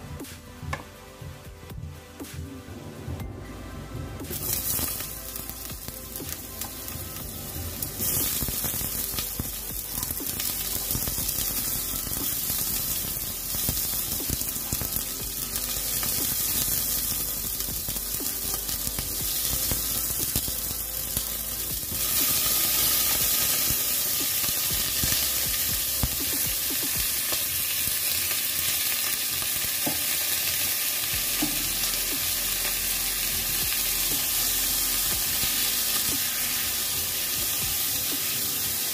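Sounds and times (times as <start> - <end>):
onion sizzling in hot oil: 4.3 - 38.9
pork ribs frying: 4.3 - 38.9.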